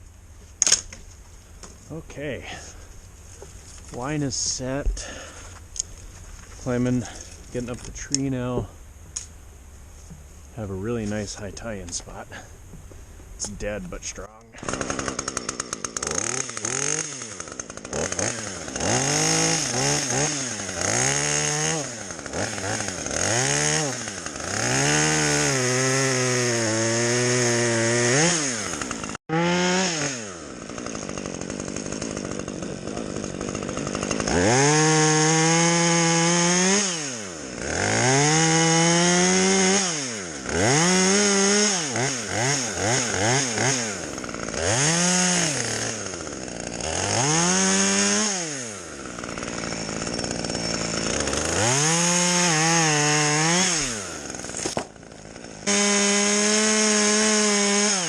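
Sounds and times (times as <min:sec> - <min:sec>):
chainsaw revving: 0:02.4 - 0:58.0.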